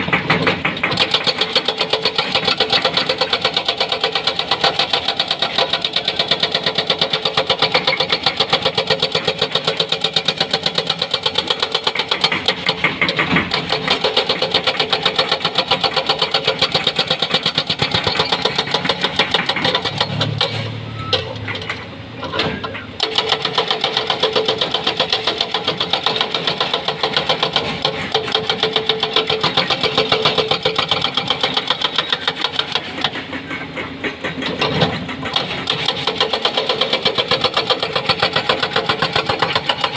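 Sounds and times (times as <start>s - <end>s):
hydraulic breaker hammering rock: 0.0s - 21.6s, 22.4s - 39.9s
excavator engine: 0.0s - 39.9s.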